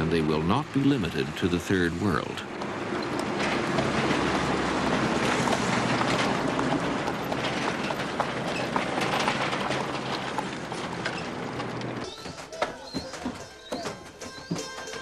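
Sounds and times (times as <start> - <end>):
road traffic passing: 0.0 - 12.1
clicks and clatter: 2.6 - 15.0.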